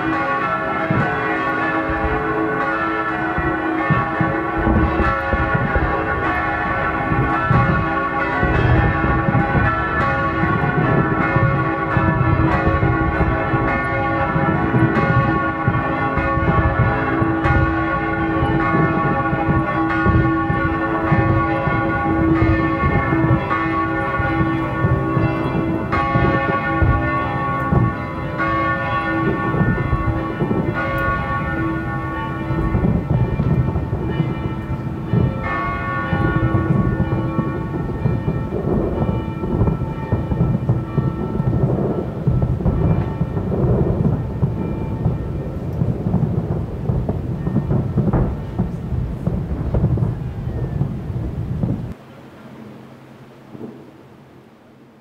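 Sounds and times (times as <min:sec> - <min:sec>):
church bells pealing: 0:00.0 - 0:51.0
fireworks banging and crackling: 0:00.0 - 0:52.0, 0:53.5 - 0:54.0.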